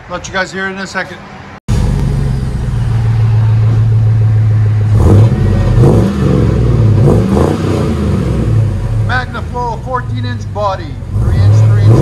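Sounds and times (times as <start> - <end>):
engine idling and revving: 1.7 - 12.0.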